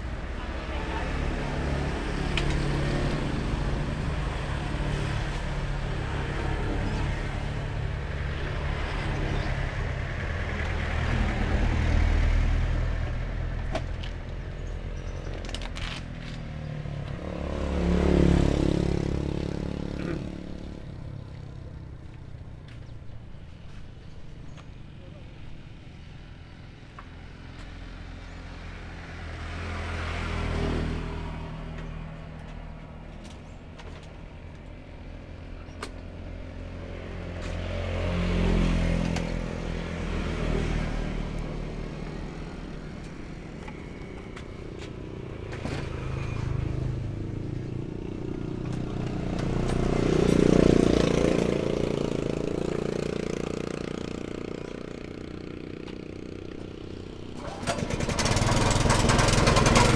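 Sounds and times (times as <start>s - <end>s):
vehicles passing on a road: 0.0s - 59.9s.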